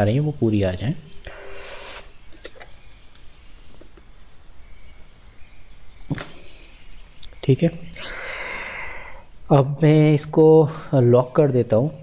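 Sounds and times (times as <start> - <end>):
room microphone background noise: 0.0 - 12.0.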